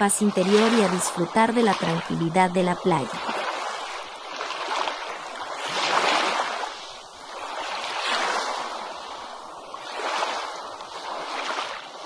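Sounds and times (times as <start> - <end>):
ocean waves breaking on beach: 0.0 - 12.0.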